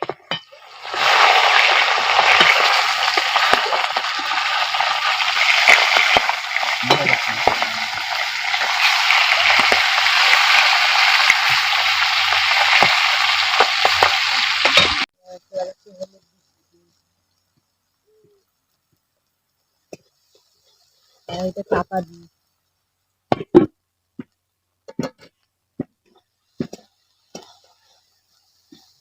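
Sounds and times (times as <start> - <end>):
food sizzling in hot oil: 0.0 - 23.4, 26.3 - 29.0.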